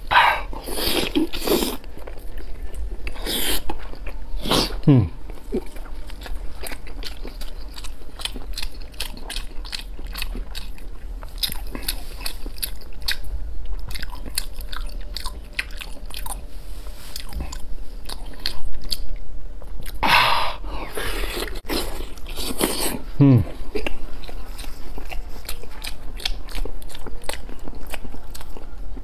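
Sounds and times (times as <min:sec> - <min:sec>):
man chewing with mouth clicks: 0:00.0 - 0:20.0, 0:20.7 - 0:29.0.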